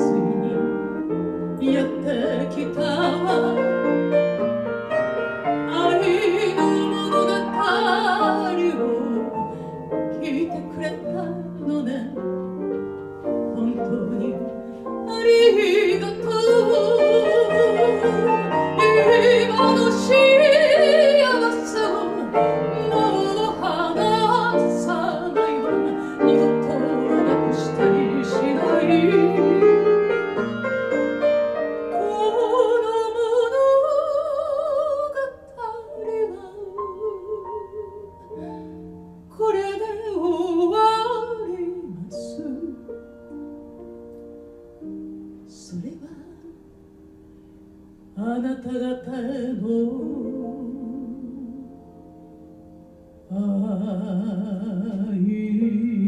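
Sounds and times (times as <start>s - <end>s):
woman singing with vibrato: 0.0s - 4.1s, 5.6s - 12.3s, 13.5s - 30.4s, 31.9s - 38.6s, 39.3s - 42.9s, 45.5s - 46.6s, 48.2s - 51.8s, 53.3s - 56.0s
piano chords: 0.0s - 56.0s.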